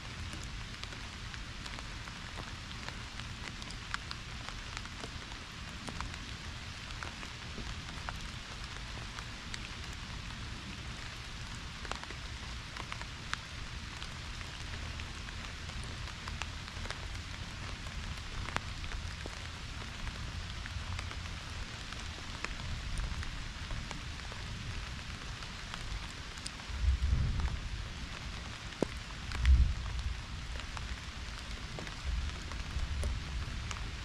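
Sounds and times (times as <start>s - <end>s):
pouring rain: 0.0s - 34.0s
raindrops ticking nearby: 0.0s - 34.0s.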